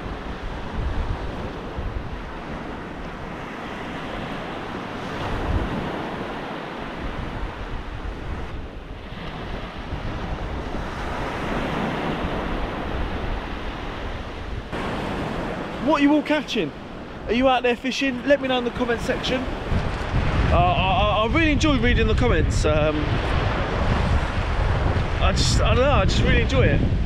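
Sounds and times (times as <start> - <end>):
surf breaking on beach: 0.0 - 27.0
wind rumbling on microphone: 0.0 - 27.0.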